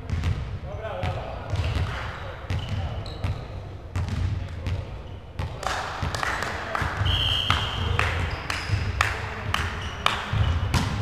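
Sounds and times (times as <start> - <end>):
volleyballs struck and bouncing: 0.0 - 11.0.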